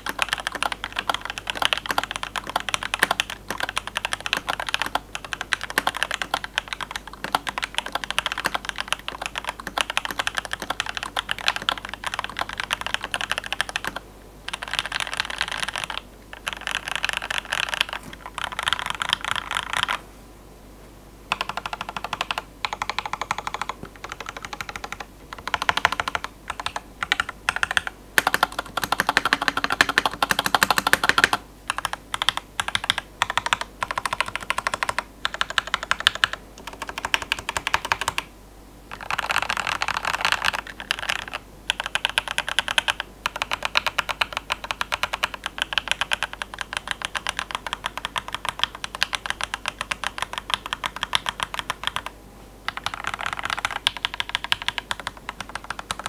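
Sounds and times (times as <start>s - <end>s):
mechanical keyboard keys clacking: 0.0s - 20.0s, 21.3s - 38.3s, 38.9s - 52.1s, 52.7s - 56.0s.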